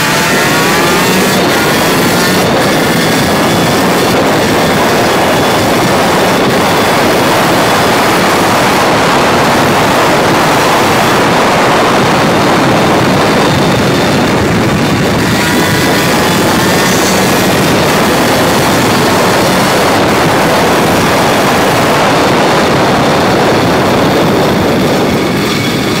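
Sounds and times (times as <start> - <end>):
go-kart engine running hard: 0.0 - 26.0.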